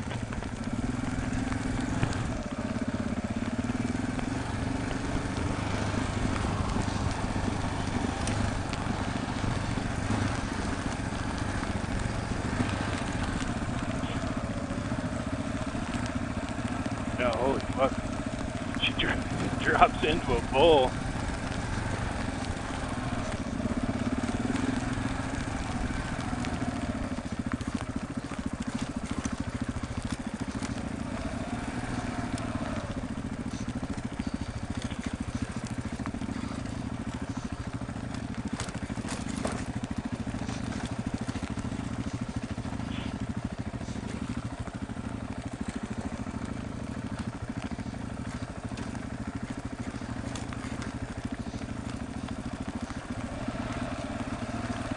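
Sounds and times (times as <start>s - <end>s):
motorcycle engine running: 0.0s - 54.9s
road noise: 0.0s - 54.9s.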